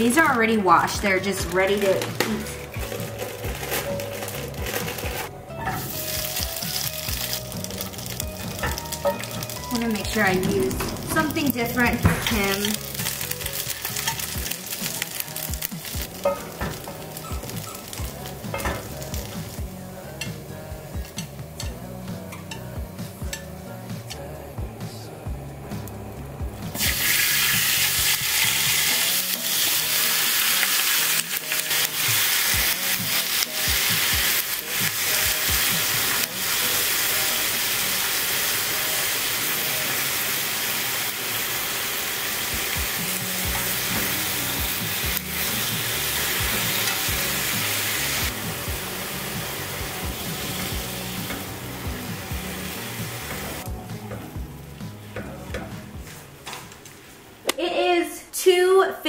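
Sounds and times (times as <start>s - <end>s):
sausage sizzling in frying pan: 0.0s - 24.4s, 26.6s - 55.1s.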